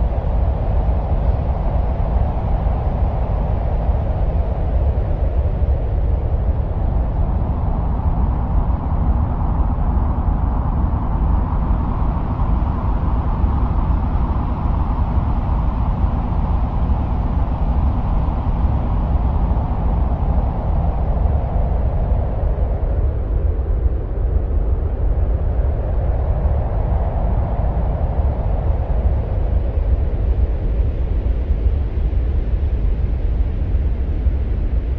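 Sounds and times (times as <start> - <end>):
low wind-like rumble: 0.0 - 34.9.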